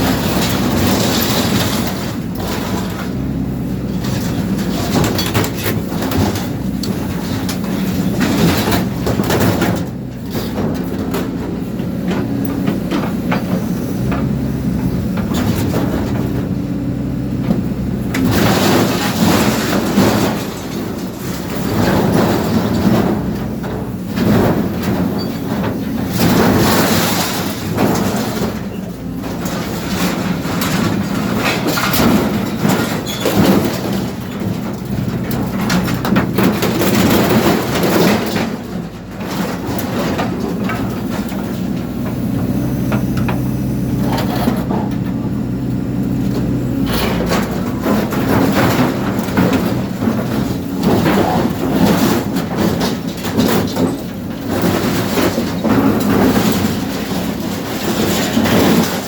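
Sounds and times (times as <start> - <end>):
heavy machine running: 0.0 - 59.0.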